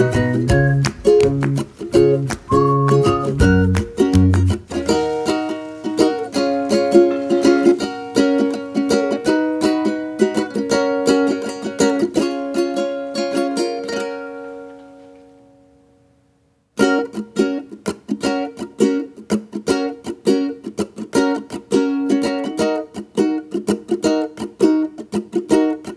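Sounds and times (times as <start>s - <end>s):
ukulele music: 0.0s - 16.0s, 16.8s - 25.9s.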